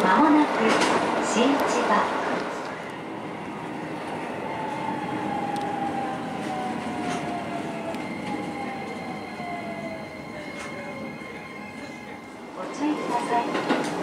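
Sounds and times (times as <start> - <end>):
train rolling noise: 0.0 - 14.0.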